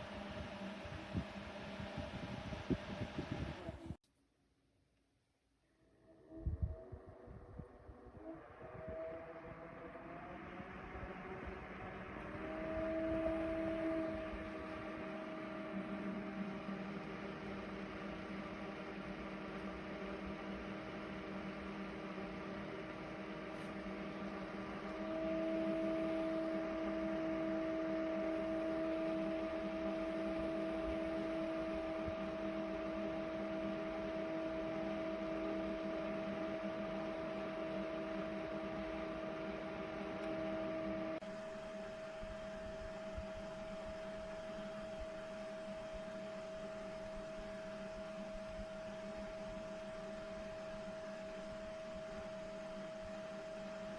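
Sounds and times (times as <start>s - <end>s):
desk fan humming whir: 0.0s - 4.0s, 6.4s - 53.9s.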